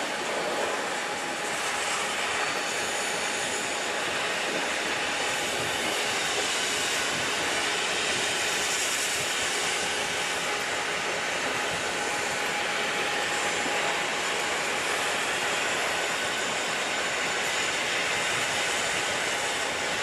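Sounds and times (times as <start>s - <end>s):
diesel locomotives running: 0.0s - 20.0s.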